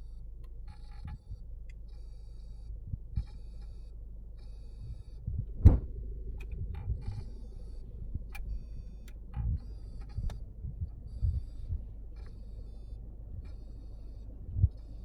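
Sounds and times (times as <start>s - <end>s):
low electronic hum: 0.0s - 15.0s.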